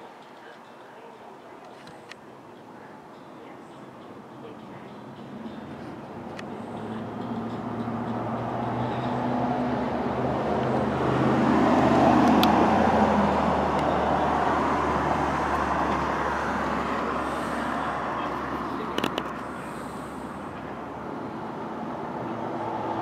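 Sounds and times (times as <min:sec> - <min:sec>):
vehicle passing by: 0:04.4 - 0:23.0.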